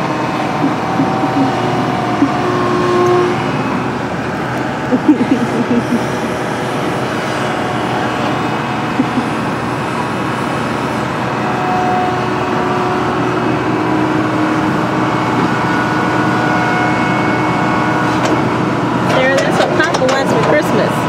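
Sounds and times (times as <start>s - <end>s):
faint whining tones: 0.0s - 18.5s
excavator engine running: 0.0s - 21.0s.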